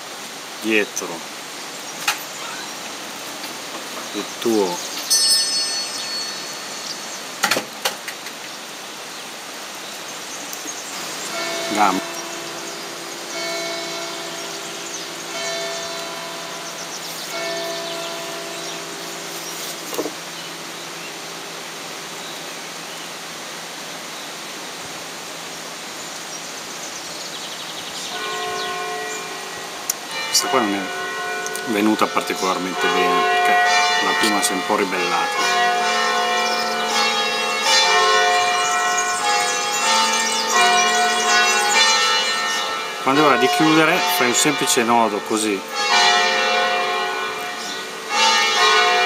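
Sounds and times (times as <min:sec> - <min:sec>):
outdoor background hiss: 0:00.0 - 0:49.0.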